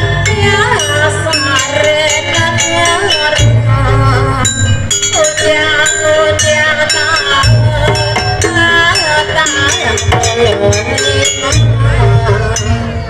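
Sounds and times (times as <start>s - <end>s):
jingling: 0.0s - 13.0s
percussion ensemble: 0.0s - 13.0s
wavering melody line: 0.0s - 13.0s.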